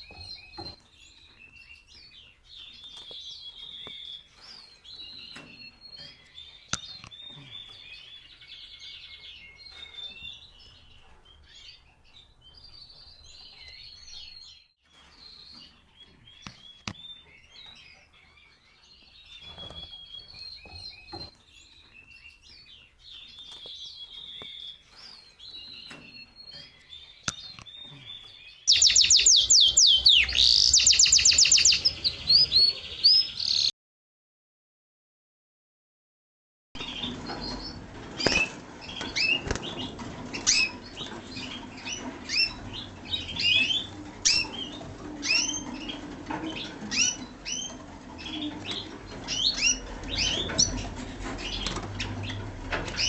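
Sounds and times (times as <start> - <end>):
canaries chirping and trilling: 0.0 - 33.7, 36.8 - 53.0
loud canary song: 0.0 - 33.7, 36.8 - 53.0.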